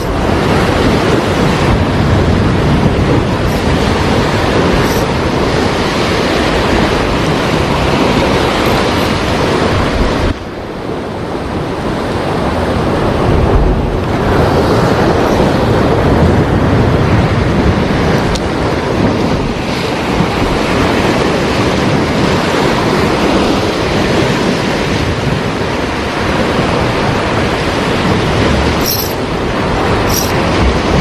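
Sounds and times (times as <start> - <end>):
waves breaking on shore: 0.0 - 31.0
wind on microphone: 0.0 - 31.0.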